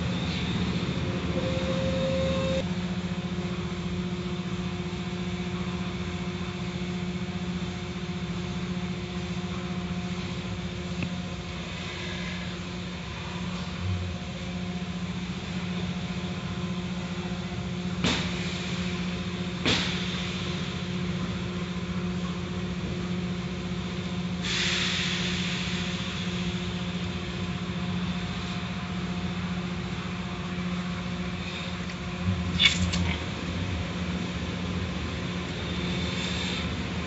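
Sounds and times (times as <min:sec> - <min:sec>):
car wash machinery humming: 0:00.0 - 0:37.0.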